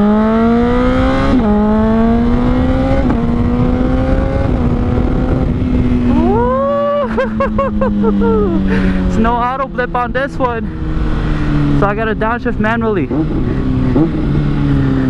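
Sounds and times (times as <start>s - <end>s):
motorcycle engine shifting gears: 0.0s - 15.0s.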